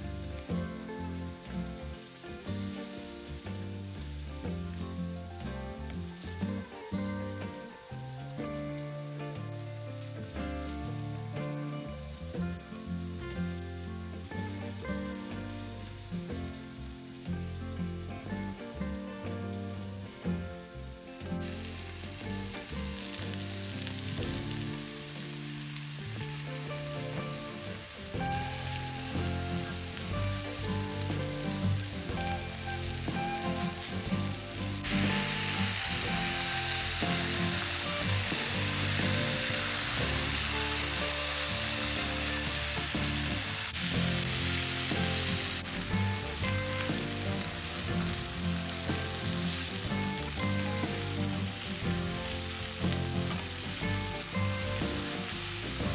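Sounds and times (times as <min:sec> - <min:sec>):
oil sizzling in frying pans: 0:00.0 - 0:55.9
soft background music: 0:00.0 - 0:55.9.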